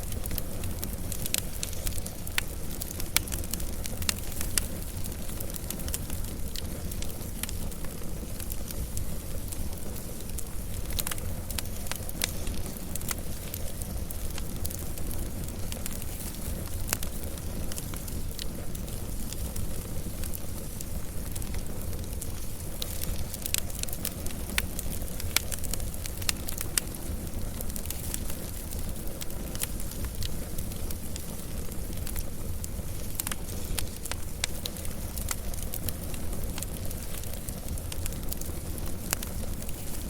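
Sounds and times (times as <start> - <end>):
fire crackling and popping: 0.0 - 40.0
wood fire rumbling and hissing: 0.0 - 40.0.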